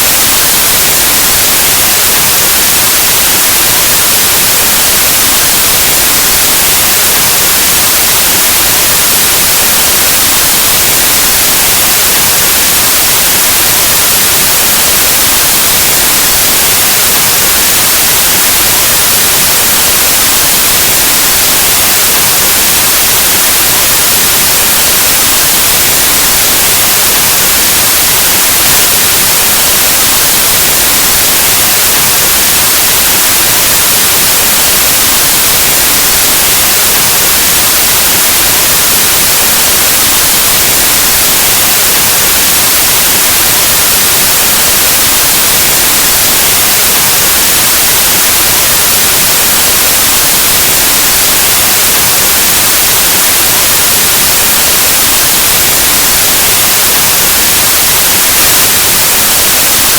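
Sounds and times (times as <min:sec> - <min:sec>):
white noise static hiss: 0:00.0 - 0:59.9.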